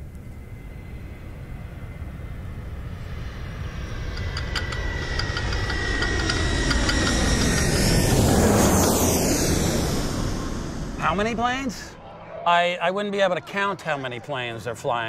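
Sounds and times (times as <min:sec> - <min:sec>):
jet airliner engine rumble: 0:00.0 - 0:14.9
high engine whine: 0:00.0 - 0:15.0.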